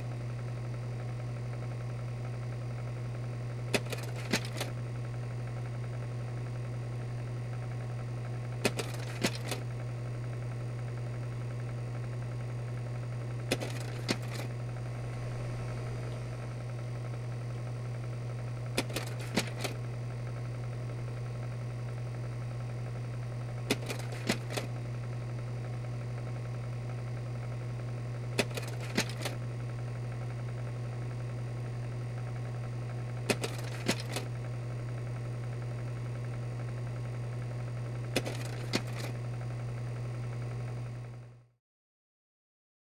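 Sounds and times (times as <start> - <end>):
projector motor and fan hum: 0.0 - 41.4.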